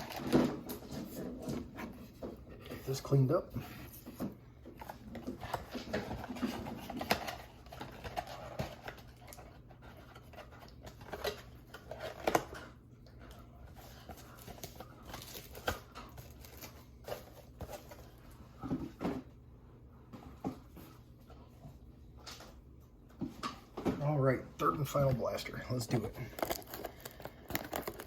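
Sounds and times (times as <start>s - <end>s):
soft packaging rustling: 0.0s - 19.4s, 24.6s - 28.0s.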